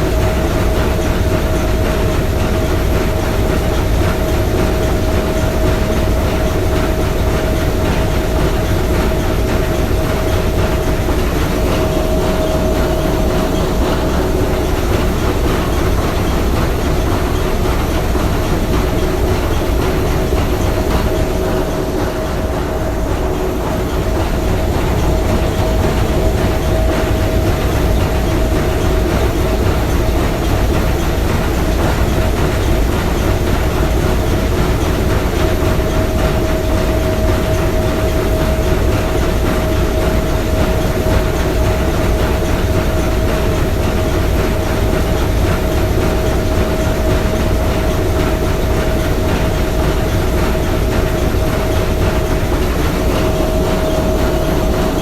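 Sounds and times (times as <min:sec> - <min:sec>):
steam engine clattering: 0:00.0 - 0:55.0.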